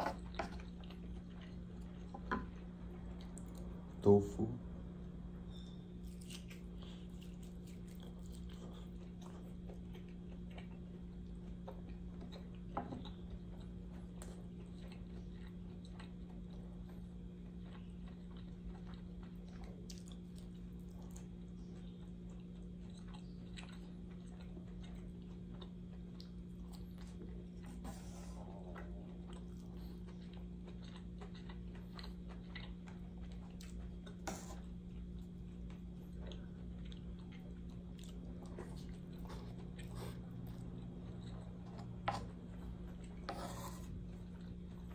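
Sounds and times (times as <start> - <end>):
steady low hum: 0.0 - 44.9
person chewing and biting: 6.0 - 27.8, 28.4 - 44.9.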